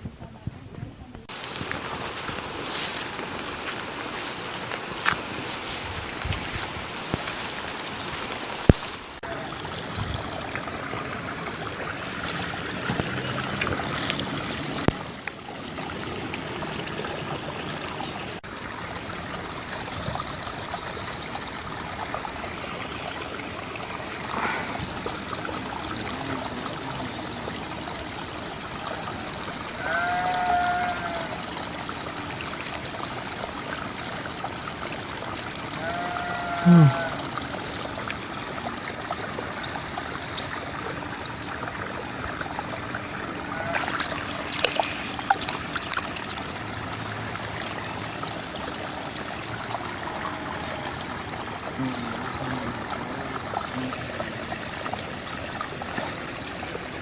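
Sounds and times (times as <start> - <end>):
water trickling: 1.1 - 57.0.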